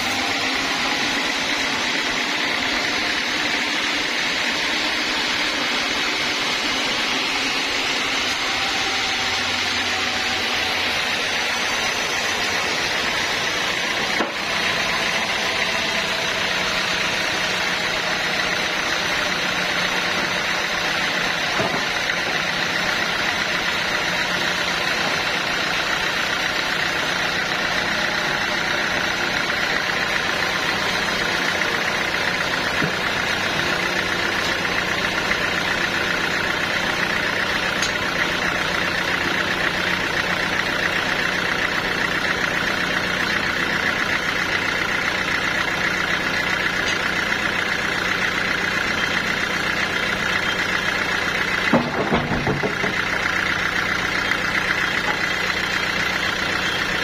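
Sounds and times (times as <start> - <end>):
sawmill saw whine: 0.0 - 57.0.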